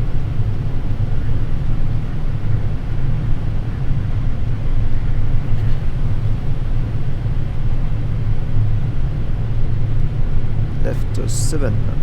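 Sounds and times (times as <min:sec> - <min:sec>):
aircraft cockpit rumble with hiss: 0:00.0 - 0:12.0.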